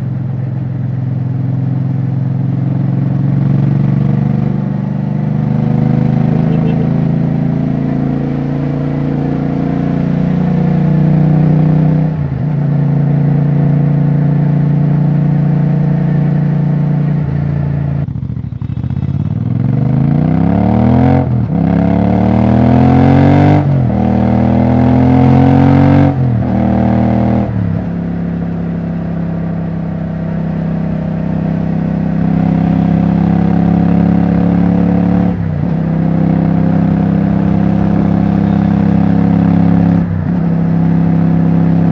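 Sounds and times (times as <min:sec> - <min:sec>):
unsilenced motorcycle engine revving: 0:00.0 - 0:41.9.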